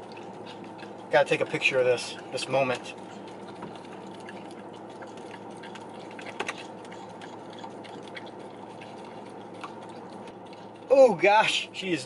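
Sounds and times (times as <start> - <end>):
dog licking and lapping: 0.0 - 12.0
low hum: 0.0 - 12.0.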